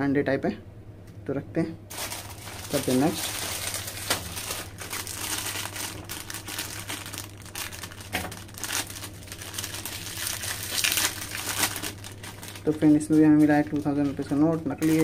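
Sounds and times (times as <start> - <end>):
snack packet crinkling: 1.9 - 15.0.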